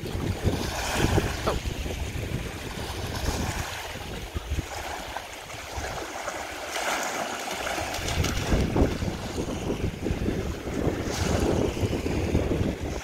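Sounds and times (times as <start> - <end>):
wind gusting on microphone: 0.0 - 6.6, 7.6 - 13.0.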